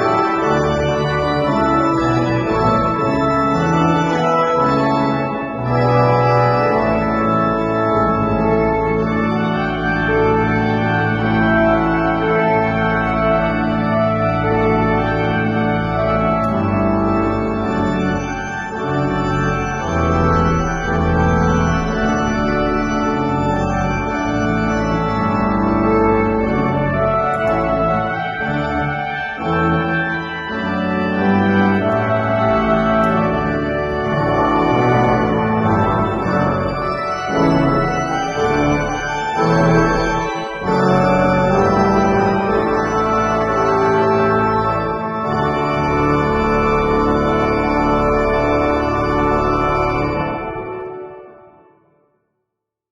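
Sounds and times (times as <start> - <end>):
organ playing sustained chords: 0.0 - 51.8.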